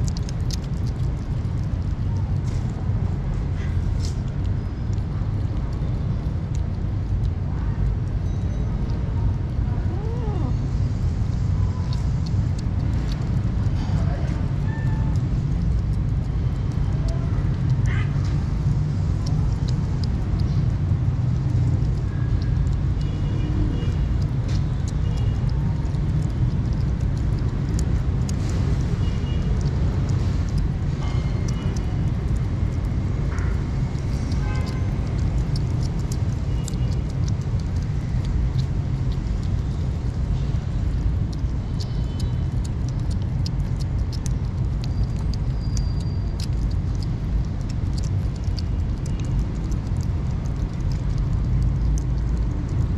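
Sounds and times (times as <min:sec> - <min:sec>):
kittens chewing and lapping food: 0:00.0 - 0:52.9
steady low rumble: 0:00.0 - 0:52.9.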